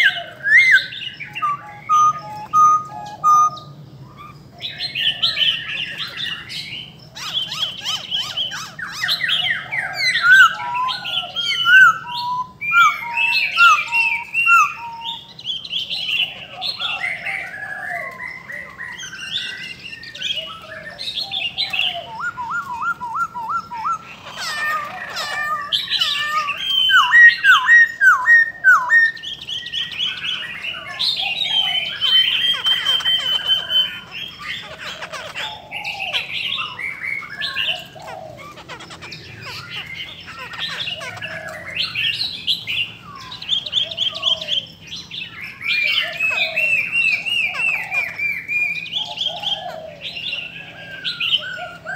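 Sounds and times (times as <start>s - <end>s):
birds singing and calling: 0.0s - 51.9s
harsh bird squawks: 0.0s - 51.9s.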